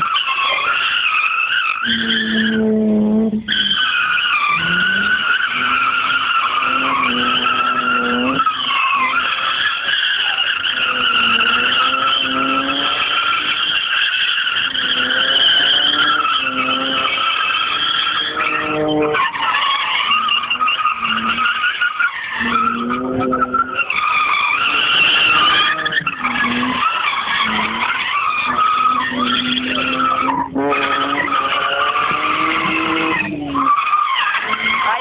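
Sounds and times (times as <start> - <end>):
car engine revving: 0.0 - 35.0
tyres squealing: 0.0 - 35.0.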